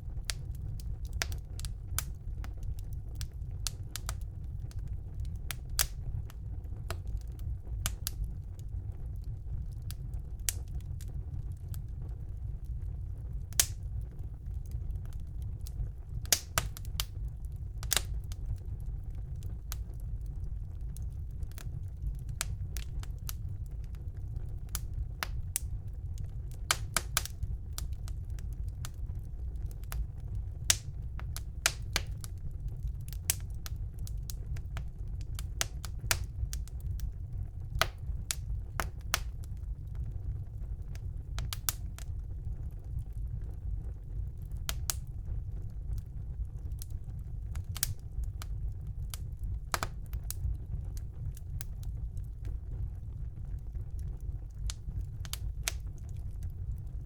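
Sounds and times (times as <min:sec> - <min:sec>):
fire crackling and popping: 0:00.0 - 0:57.0
fire flames rumbling: 0:00.0 - 0:57.0.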